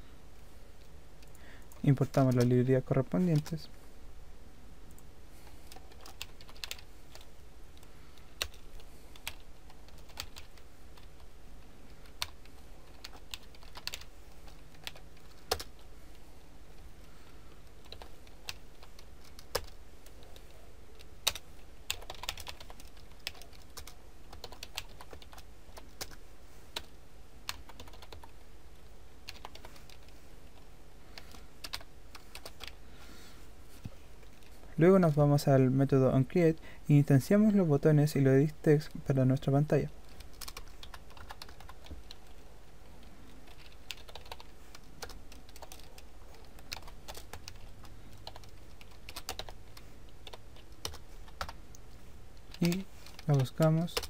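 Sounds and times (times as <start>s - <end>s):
faint low background hum: 0.0s - 54.0s.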